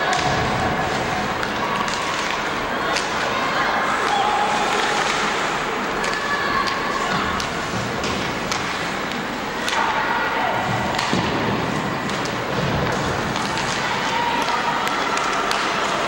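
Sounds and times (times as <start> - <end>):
hockey sticks and puck clacking: 0.0 - 16.0.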